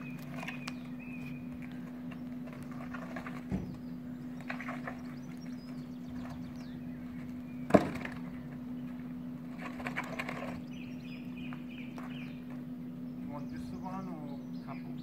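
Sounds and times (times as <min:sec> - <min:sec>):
hoist engine humming: 0:00.0 - 0:15.0.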